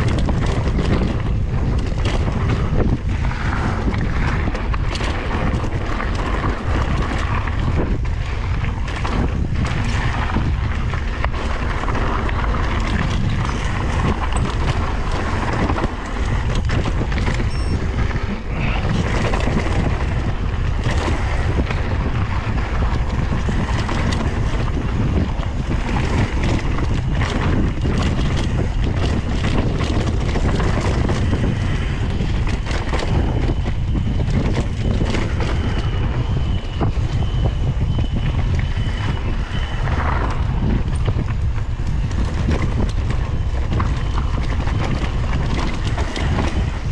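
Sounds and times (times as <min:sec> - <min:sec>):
bike knocking and rattling: 0:00.0 - 0:46.9
tyres rumbling on dirt: 0:00.0 - 0:46.9
wind buffeting microphone: 0:00.0 - 0:46.9.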